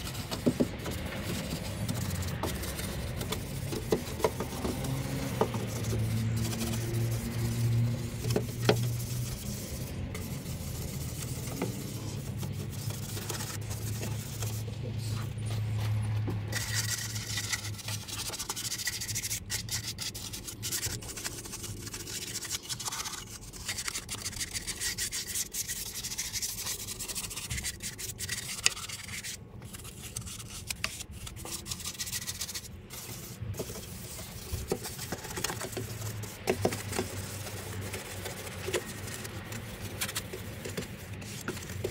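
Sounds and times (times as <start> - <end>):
scrubbing strokes: 0.0 - 41.9.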